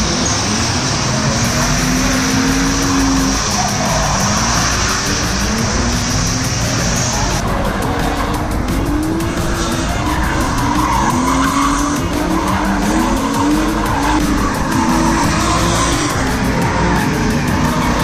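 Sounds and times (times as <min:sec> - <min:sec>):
car engine revving: 0:00.0 - 0:18.0
tyres skidding and squealing: 0:00.0 - 0:18.0.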